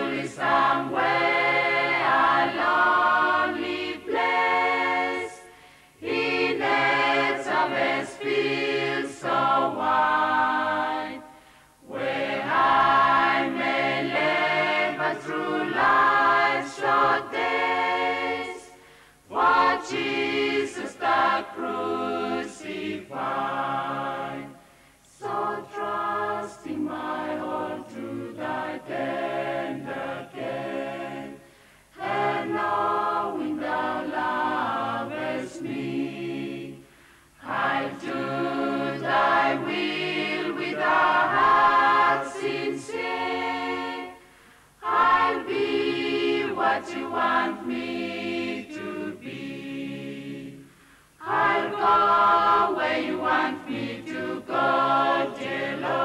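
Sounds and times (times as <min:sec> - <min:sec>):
mixed choir singing a cappella: 0:00.0 - 0:56.0.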